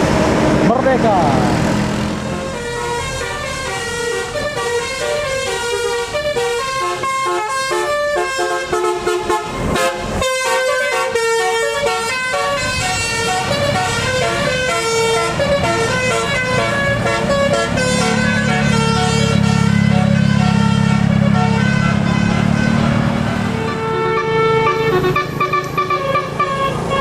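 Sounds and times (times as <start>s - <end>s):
deep bus engine rumble: 0.0s - 27.0s
bus horn playing a tune: 2.2s - 27.0s.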